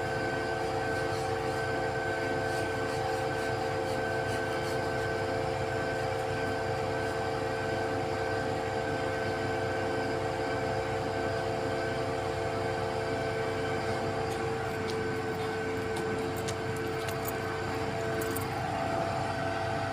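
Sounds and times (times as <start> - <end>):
concrete pump machine drone: 0.0 - 19.9
steady machine whine: 0.0 - 19.9.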